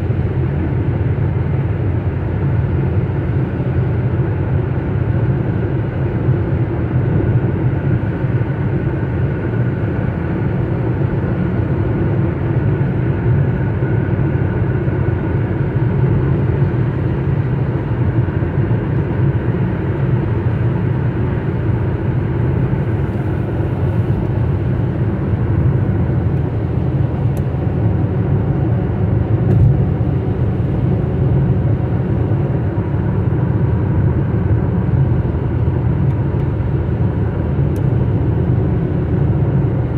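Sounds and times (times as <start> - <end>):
car interior road and engine rumble: 0.0 - 39.9.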